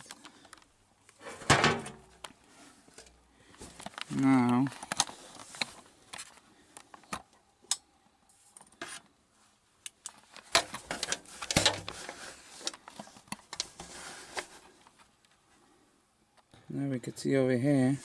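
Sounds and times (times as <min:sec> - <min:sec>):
handling clicks and rustles: 0:00.0 - 0:09.2, 0:09.8 - 0:15.4.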